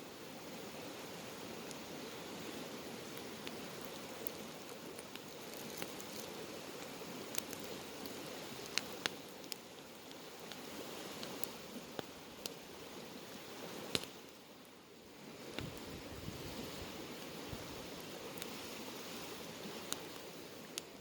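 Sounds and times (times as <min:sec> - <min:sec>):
flames hissing: 0:00.3 - 0:14.5, 0:15.3 - 0:21.0
burning wood crackling and popping: 0:00.4 - 0:21.0.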